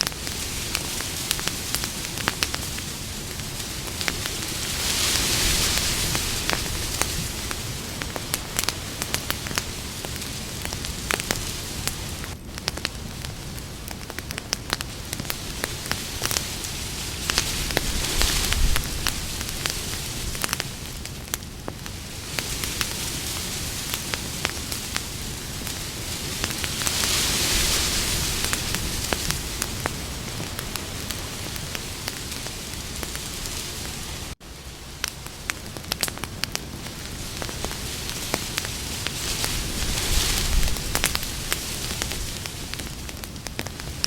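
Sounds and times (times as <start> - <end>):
campfire hissing: 0.0 - 44.0
fire crackling and popping: 0.0 - 44.0.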